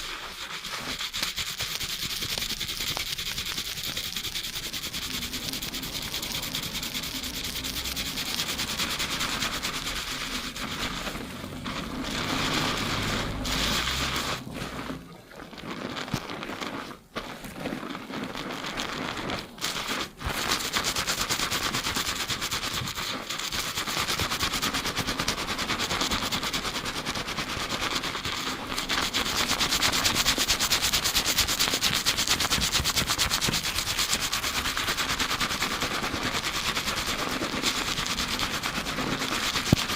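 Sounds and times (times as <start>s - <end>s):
fingers scrubbing lathered scalp: 0.0s - 39.9s.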